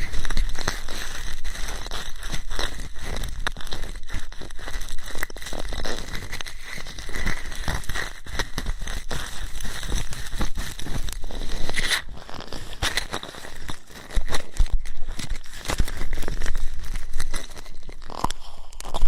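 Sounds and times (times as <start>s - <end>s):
ear pick scratching: 0.0s - 19.0s.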